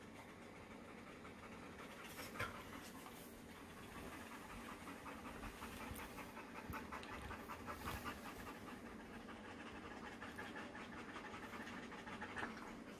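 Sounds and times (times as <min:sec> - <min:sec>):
dogs panting: 0:00.0 - 0:12.9.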